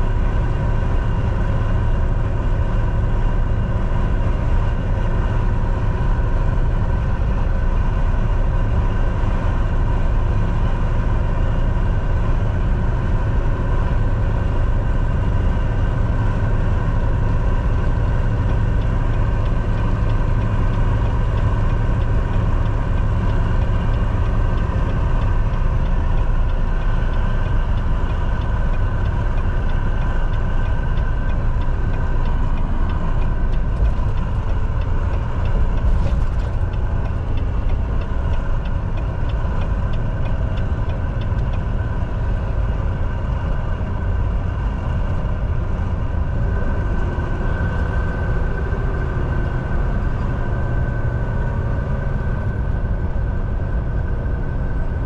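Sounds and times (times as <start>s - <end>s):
diesel truck engine droning: 0.0s - 55.0s
road noise: 0.0s - 55.0s.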